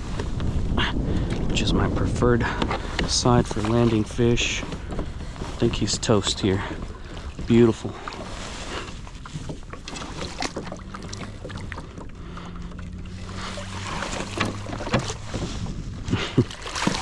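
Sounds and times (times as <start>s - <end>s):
low wind rumble: 0.0s - 17.0s
water splashing: 2.1s - 17.0s.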